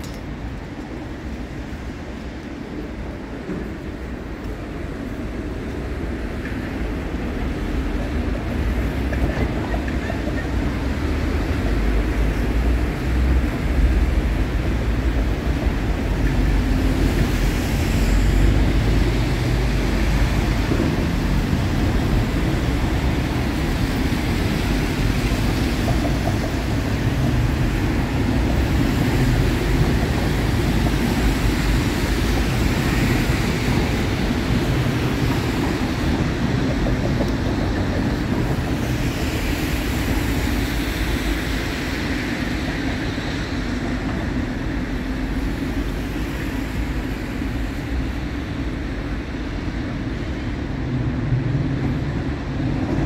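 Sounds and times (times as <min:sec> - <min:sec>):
cars on a wet street: 0:00.0 - 0:53.0.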